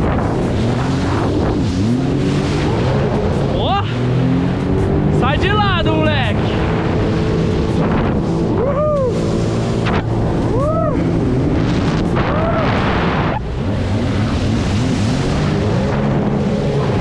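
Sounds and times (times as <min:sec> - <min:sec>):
jet ski engine running hard: 0:00.0 - 0:17.0
wind on microphone: 0:00.0 - 0:17.0.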